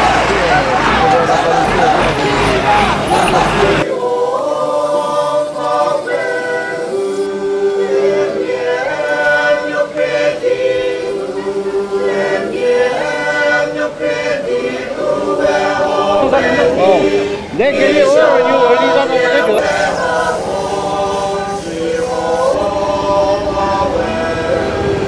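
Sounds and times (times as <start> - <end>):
women singing unaccompanied: 3.3 - 25.0.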